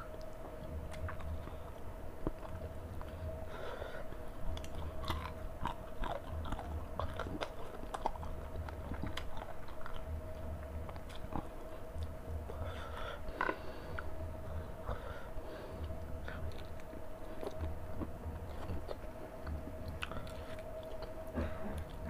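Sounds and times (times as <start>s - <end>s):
faint steady hum: 0.0s - 22.0s
chewing and mouth noises: 0.1s - 15.0s, 15.7s - 22.0s.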